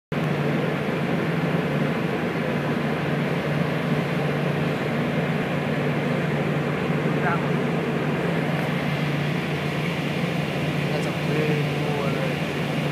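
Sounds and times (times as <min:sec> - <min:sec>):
loud engine drone: 0:00.1 - 0:12.9.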